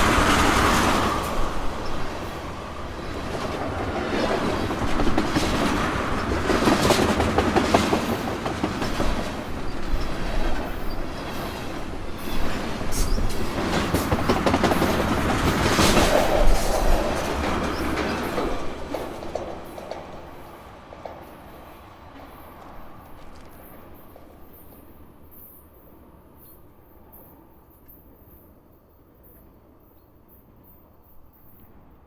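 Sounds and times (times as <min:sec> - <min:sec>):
freight train passing: 0:00.0 - 0:32.0.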